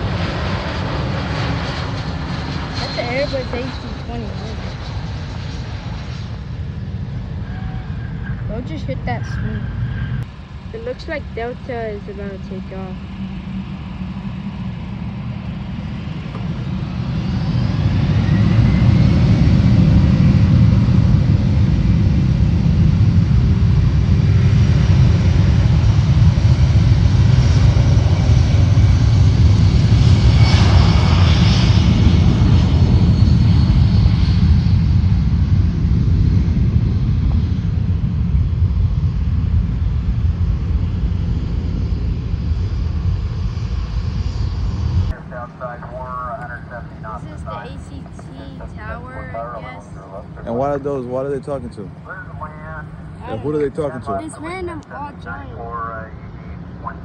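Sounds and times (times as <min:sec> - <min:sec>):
jet engines rumbling: 0:00.0 - 0:57.0
rising jet whine: 0:00.0 - 0:57.0.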